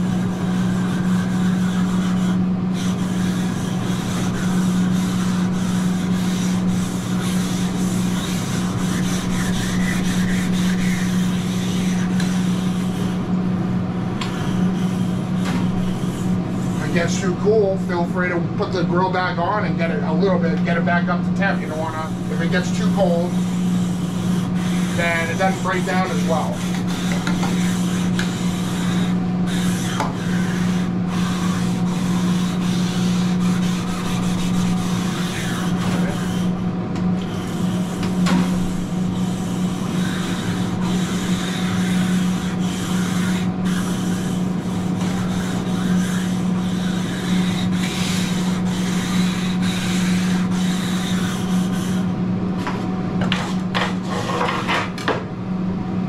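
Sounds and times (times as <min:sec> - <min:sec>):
grill brick scraping griddle: 0:00.0 - 0:55.0.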